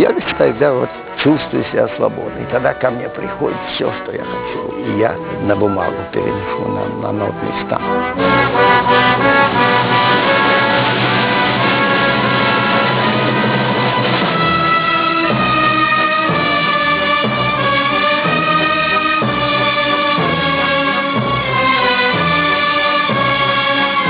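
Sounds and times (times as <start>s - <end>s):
symphony orchestra playing: 0.0s - 24.0s.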